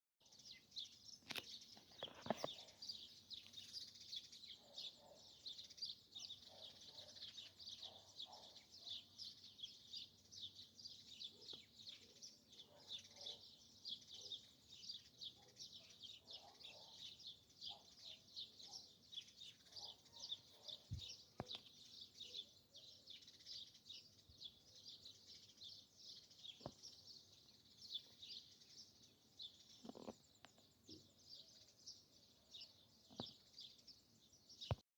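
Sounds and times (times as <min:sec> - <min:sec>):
forest birds chirping: 0:00.2 - 0:34.8.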